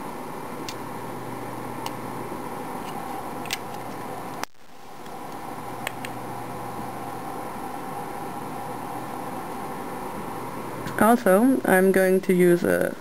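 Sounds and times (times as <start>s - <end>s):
room hiss and hum: 0.0s - 13.0s.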